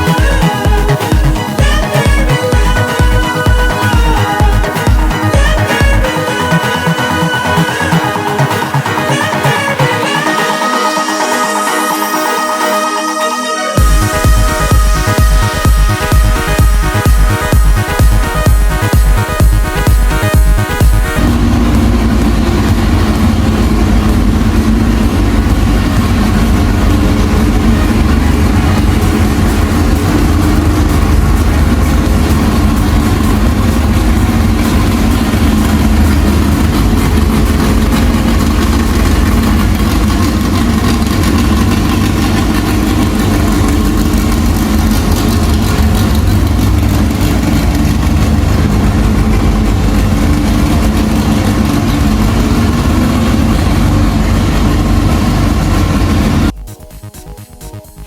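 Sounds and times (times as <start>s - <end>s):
car engine running steadily: 0.0s - 13.2s, 13.8s - 58.0s.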